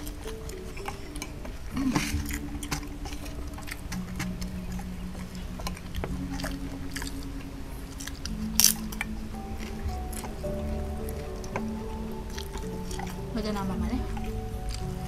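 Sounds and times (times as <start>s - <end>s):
eating and chewing clicks: 0.0s - 15.0s
soft background music: 0.0s - 15.0s.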